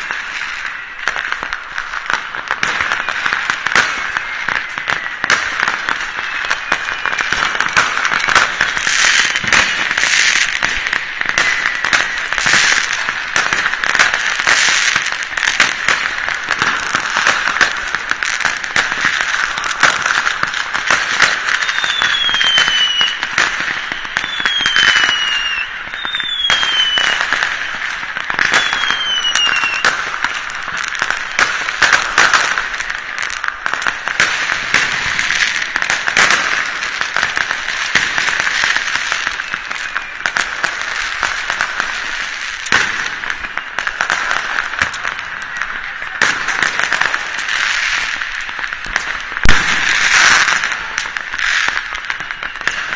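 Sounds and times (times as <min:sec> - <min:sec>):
fireworks crackling and banging: 0:00.0 - 0:52.9
whistling fireworks: 0:00.0 - 0:52.9.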